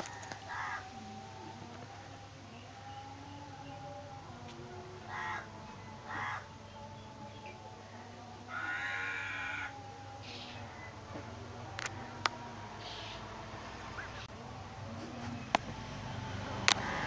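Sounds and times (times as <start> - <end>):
harsh animal calls: 0.0 - 14.3.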